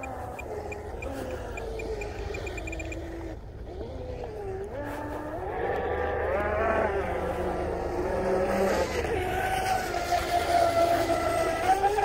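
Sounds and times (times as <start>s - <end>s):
electric motor whine: 0.0s - 12.0s.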